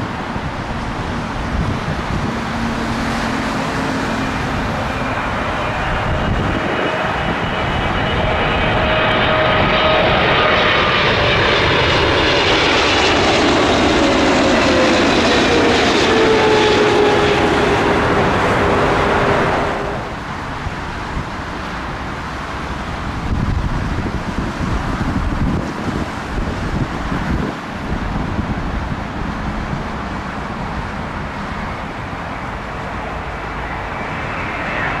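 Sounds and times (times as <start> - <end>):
jet airliner engines roaring overhead: 0.0 - 35.0.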